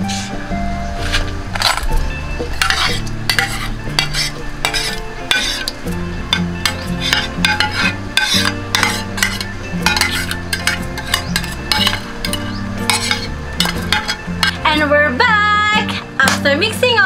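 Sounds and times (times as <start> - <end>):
utensil scraping in a wok: 1.0 - 14.7.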